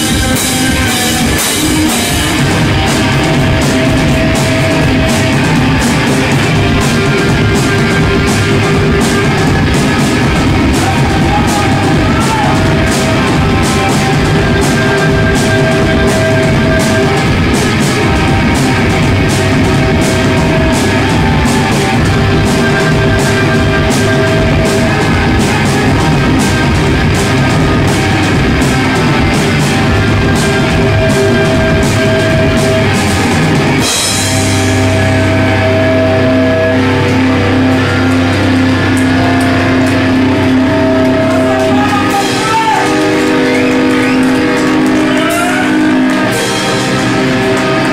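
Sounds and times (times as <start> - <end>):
bass guitar: 0.0 - 47.9
drums with cymbal strikes: 0.0 - 47.9
electric guitars: 0.0 - 47.9.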